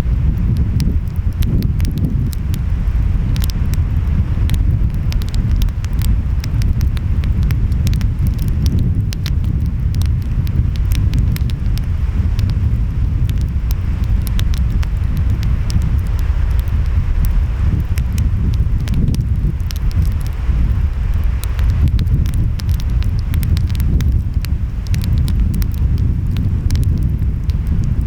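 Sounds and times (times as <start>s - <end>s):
wind: 0.0s - 28.0s
wood fire crackling and popping: 0.0s - 28.0s.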